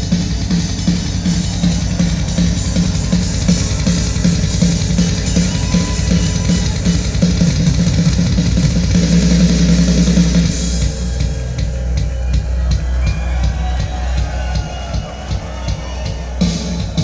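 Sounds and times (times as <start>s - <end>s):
rock music through speaker: 0.0s - 17.0s.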